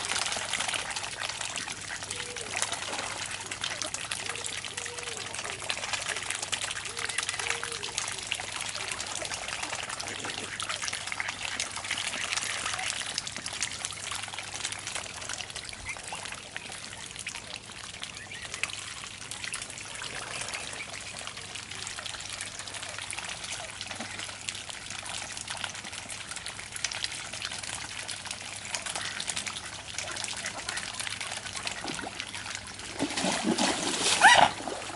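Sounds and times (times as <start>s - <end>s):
swans dabbling at water surface: 0.0s - 34.9s.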